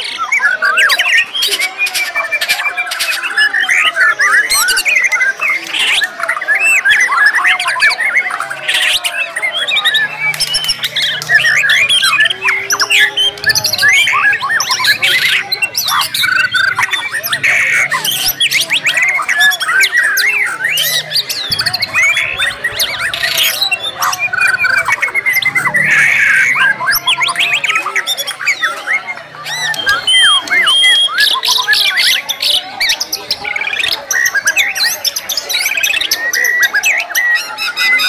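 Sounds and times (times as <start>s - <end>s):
birds singing in chorus: 0.0s - 38.0s.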